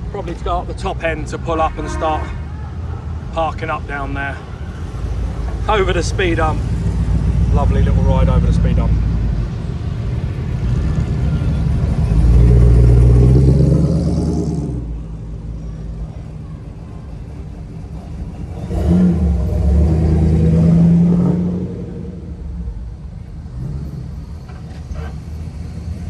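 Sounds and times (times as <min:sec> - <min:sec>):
cars driving past rumbling: 0:00.0 - 0:26.0.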